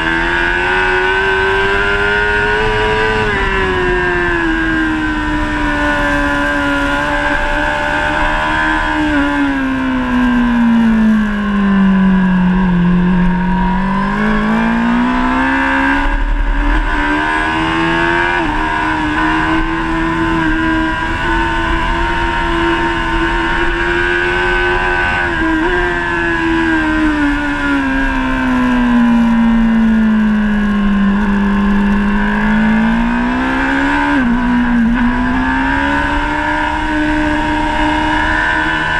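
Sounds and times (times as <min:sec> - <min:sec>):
motorcycle engine revving hard: 0:00.0 - 0:38.9
rush of wind: 0:00.0 - 0:38.9.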